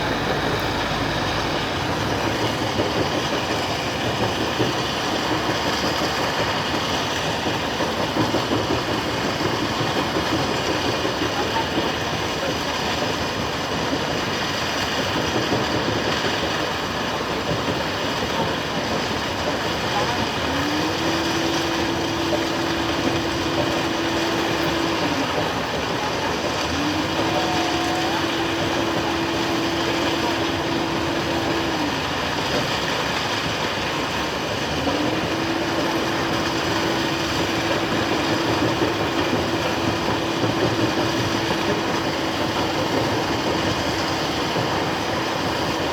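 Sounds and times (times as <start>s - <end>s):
excavator engine running: 0.0s - 45.9s.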